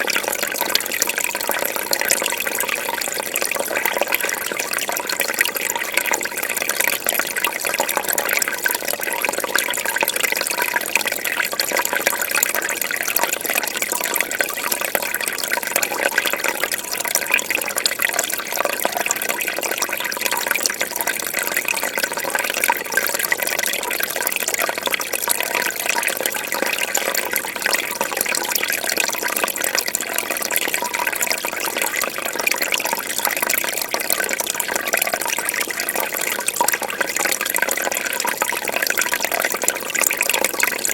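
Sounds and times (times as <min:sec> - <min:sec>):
aquarium water bubbling: 0:00.0 - 0:40.9.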